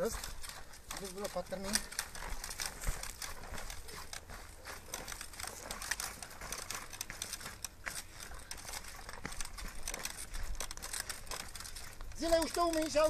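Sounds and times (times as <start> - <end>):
small clicks and crackles: 0.0 - 13.0
tyres crunching on gravel: 0.0 - 13.0.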